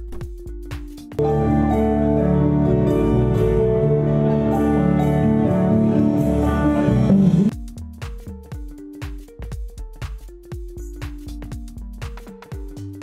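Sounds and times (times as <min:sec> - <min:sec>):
electronic beat: 0:00.0 - 0:13.0.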